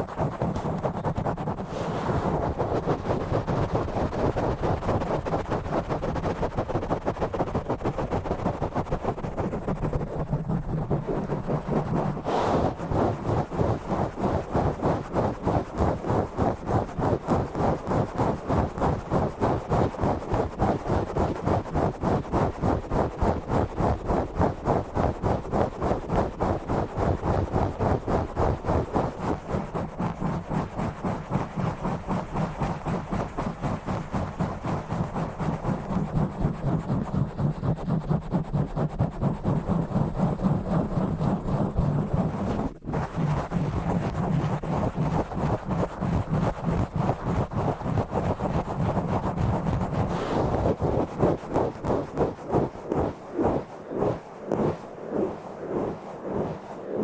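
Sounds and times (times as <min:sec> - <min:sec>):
fingernail scratching on microphone: 0:00.0 - 0:56.8.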